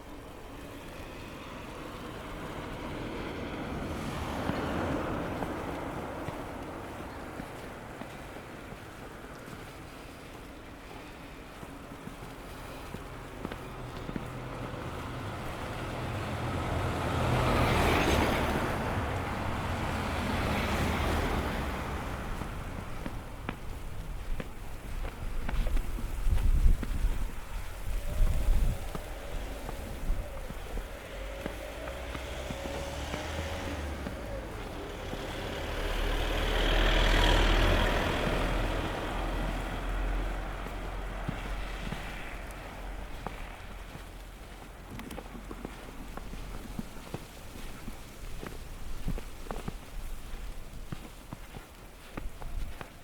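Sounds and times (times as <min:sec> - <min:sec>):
car passing on snow: 0:00.0 - 0:53.0.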